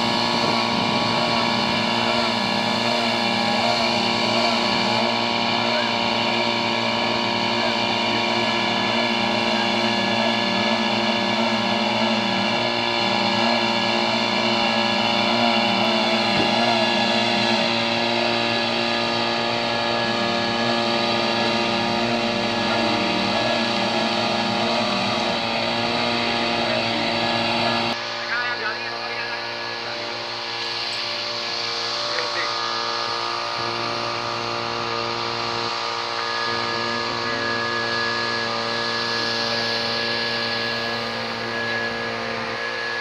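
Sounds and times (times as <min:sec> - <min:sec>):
pump engine running: 0:00.0 - 0:43.0.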